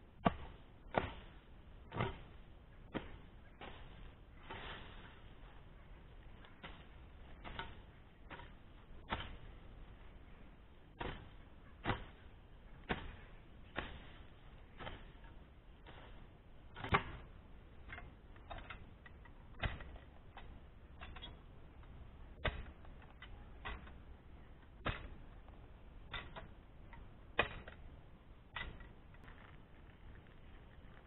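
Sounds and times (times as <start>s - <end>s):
digging tools striking soil: 0.2s - 31.0s.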